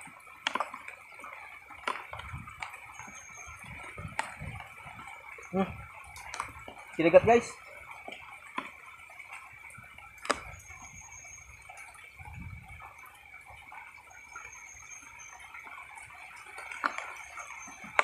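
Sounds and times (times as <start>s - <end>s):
light rain: 0.0s - 18.0s.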